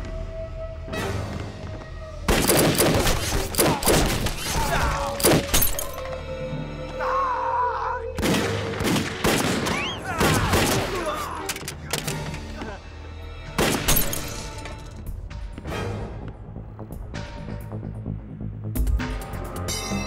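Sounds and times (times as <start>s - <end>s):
dramatic background music: 0.0s - 20.0s.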